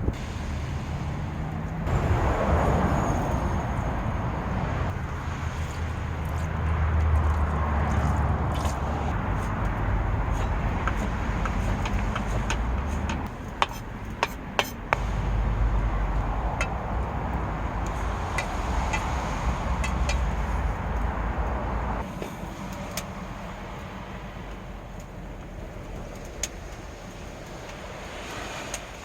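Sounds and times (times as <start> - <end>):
strong wind gusting against car: 0.0 - 29.0.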